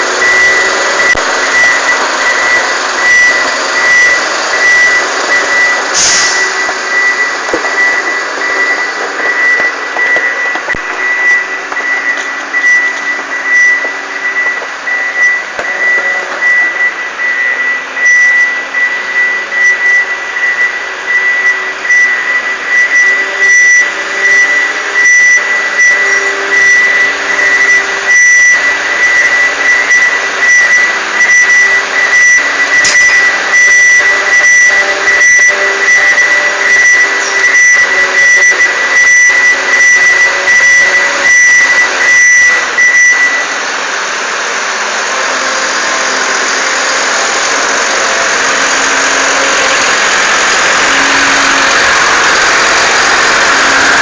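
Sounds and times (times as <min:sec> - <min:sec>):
diesel engine idling: 0:00.0 - 0:54.0
high-pitched whine: 0:00.0 - 0:54.0.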